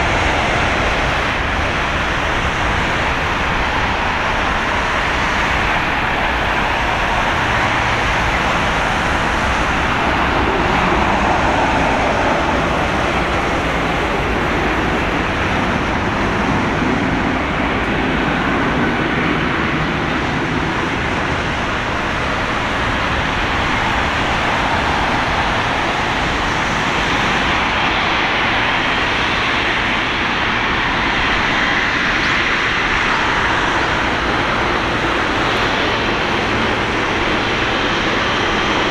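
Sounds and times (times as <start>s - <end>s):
jet engines running at low power: 0.0s - 38.9s.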